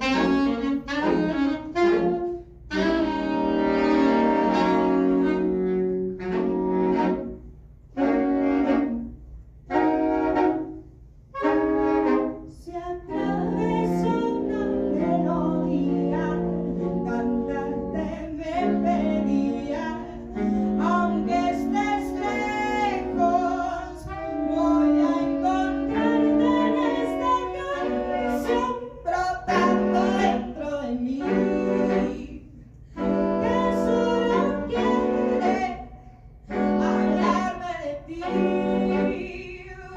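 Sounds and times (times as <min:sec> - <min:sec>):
saxophone quartet playing chords: 0:00.0 - 0:39.9.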